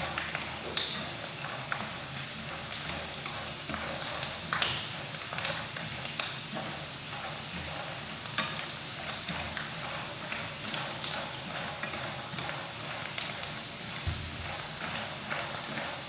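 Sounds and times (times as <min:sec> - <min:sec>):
macaroni sizzling in hot oil: 0:00.0 - 0:16.0.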